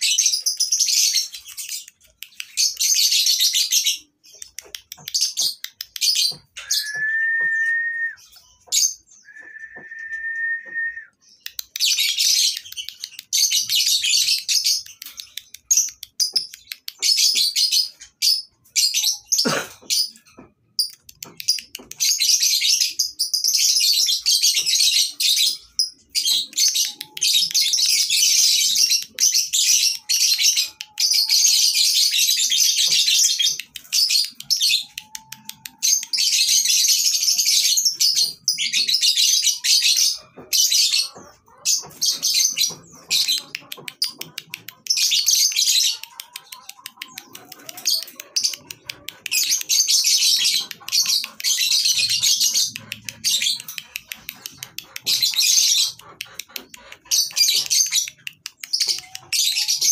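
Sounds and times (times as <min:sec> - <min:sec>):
lovebirds chattering: 0:00.0 - 0:59.9.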